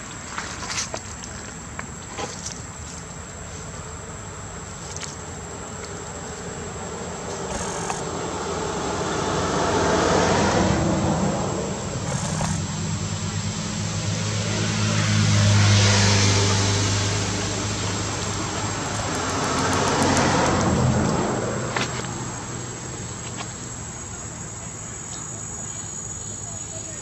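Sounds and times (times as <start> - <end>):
insects buzzing: 0.0 - 27.0
vehicles passing: 0.0 - 27.0.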